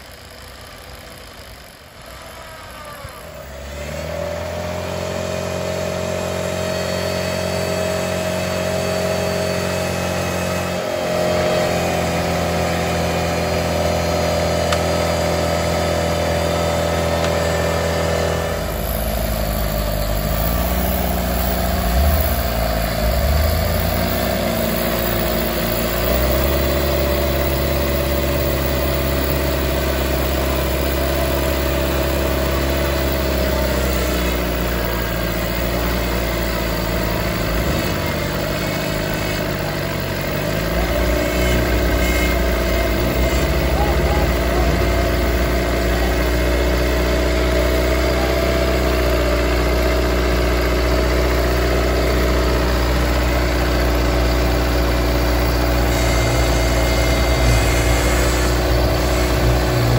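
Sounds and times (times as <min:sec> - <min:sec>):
off-road vehicle engine idling: 0:00.0 - 0:59.9
engine revving: 0:02.0 - 0:59.9.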